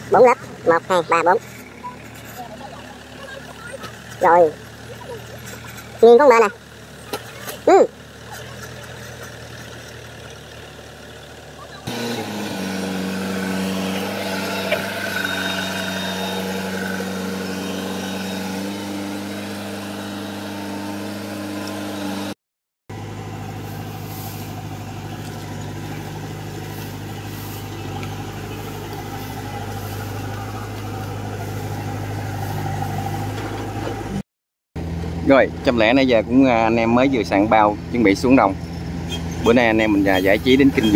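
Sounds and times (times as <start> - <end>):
combine harvester diesel engine: 0.0 - 34.2, 34.8 - 40.9.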